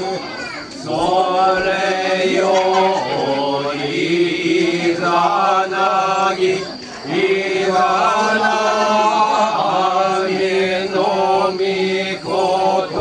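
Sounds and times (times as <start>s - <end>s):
person chanting: 0.0s - 13.0s.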